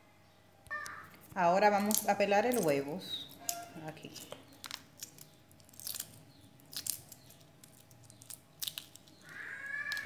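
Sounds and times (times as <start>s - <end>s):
egg shell crackling as peeled: 0.7s - 10.0s.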